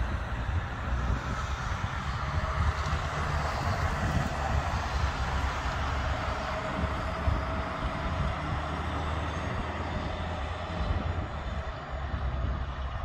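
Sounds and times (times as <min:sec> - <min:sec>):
distant jet noise: 0:00.0 - 0:13.0
wind buffeting microphone: 0:00.0 - 0:13.0.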